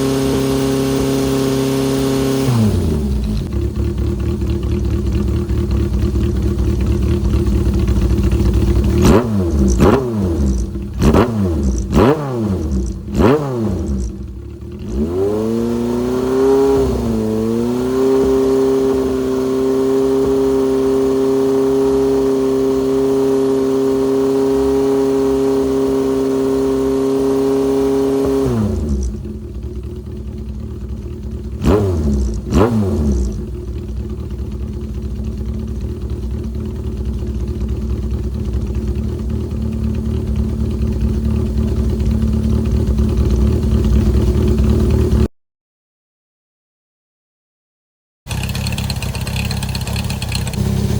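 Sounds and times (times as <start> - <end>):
motorcycle engine idling and revving: 0.0 - 45.3, 48.3 - 50.9.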